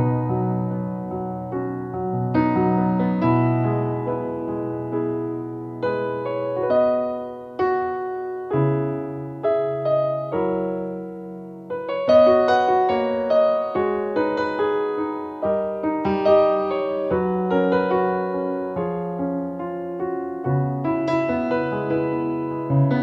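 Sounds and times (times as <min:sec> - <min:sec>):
slow piano piece: 0:00.0 - 0:23.0.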